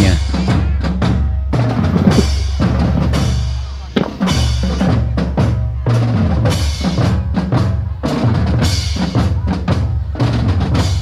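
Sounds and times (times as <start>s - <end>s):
marching drums: 0.0s - 11.0s.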